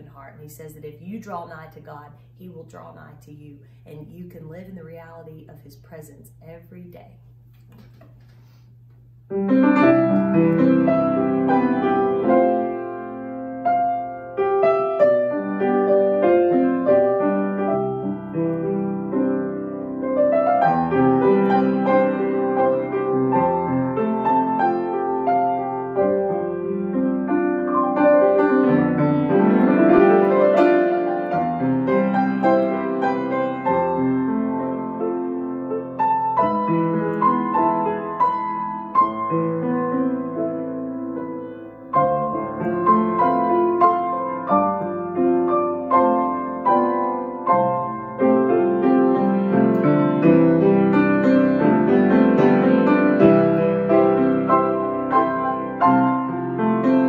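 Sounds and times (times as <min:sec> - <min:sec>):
solo grand piano: 0:09.3 - 0:57.0.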